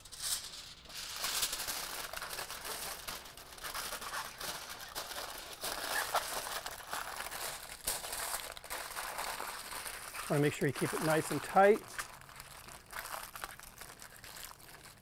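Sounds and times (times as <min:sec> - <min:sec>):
aluminum foil crinkling: 0:00.0 - 0:15.0.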